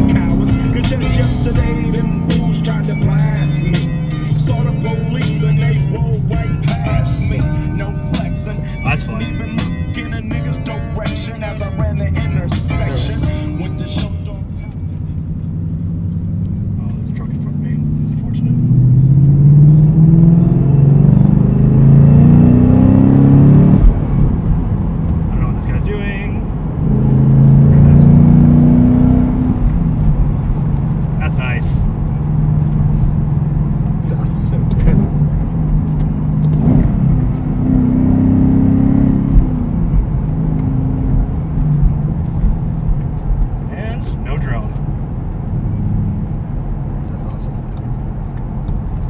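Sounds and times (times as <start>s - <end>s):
car engine accelerating: 0.0s - 49.0s.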